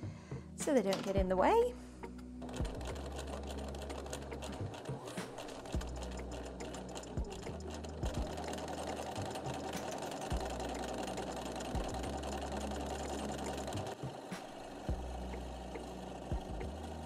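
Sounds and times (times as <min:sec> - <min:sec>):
sewing machine running: 0:02.4 - 0:17.0.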